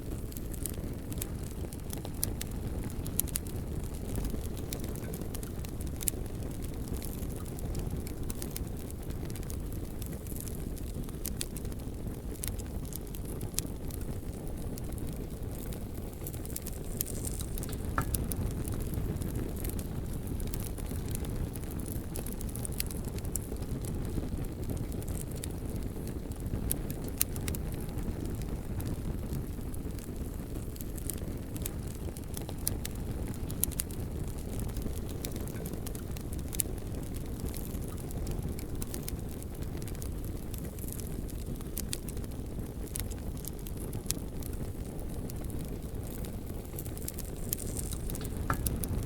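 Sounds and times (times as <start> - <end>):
bonfire crackling and popping: 0.0 - 49.0.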